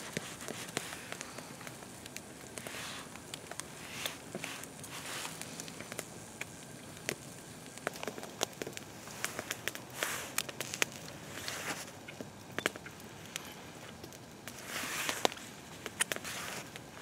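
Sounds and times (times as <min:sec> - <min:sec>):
campfire crackling and popping: 0:00.0 - 0:17.0
rustling: 0:00.0 - 0:17.0.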